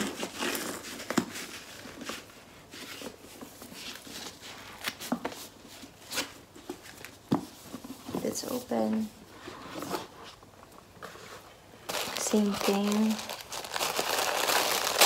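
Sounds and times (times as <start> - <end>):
cardboard boxes rustling: 0.0 - 14.6.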